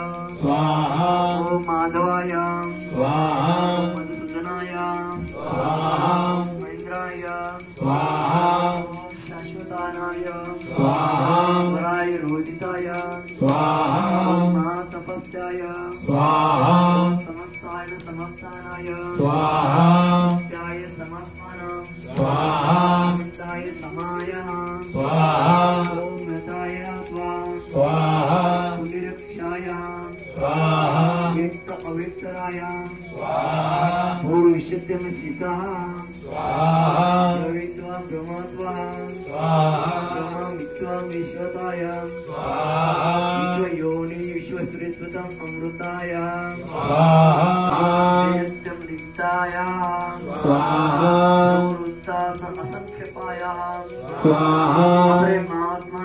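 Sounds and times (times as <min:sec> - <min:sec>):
chanting: 0:00.0 - 0:56.0
small bell jingling: 0:00.0 - 0:56.0.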